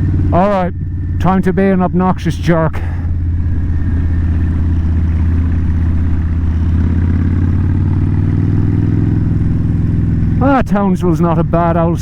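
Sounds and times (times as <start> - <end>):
motorcycle exhaust note: 0.0 - 12.0.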